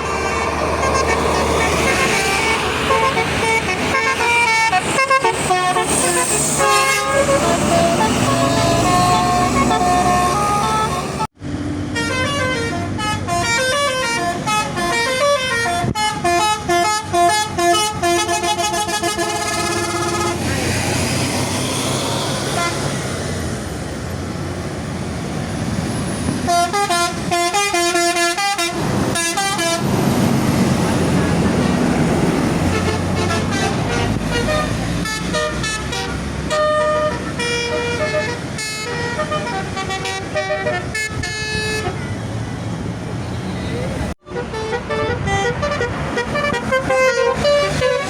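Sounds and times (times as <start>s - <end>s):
multi-tone bus horns playing tunes: 0.0s - 11.3s, 11.9s - 20.6s, 22.2s - 23.1s, 26.4s - 42.2s, 44.2s - 48.0s
bus engine rumbling past: 0.0s - 48.0s.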